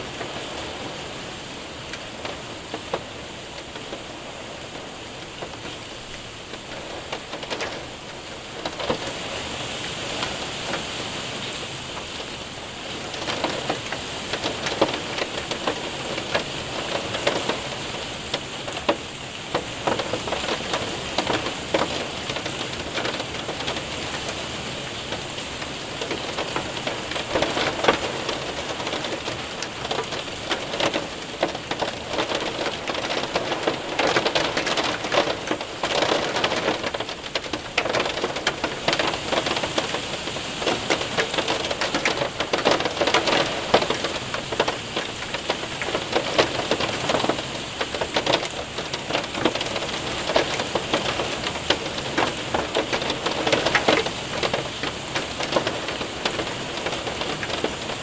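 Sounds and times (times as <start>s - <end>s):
hail ticking on window and roof: 0.0s - 58.0s
heavy rain: 0.0s - 58.0s.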